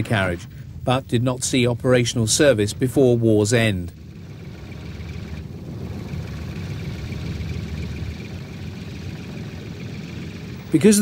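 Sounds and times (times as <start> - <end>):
small engine low rumble: 0.0 - 11.0.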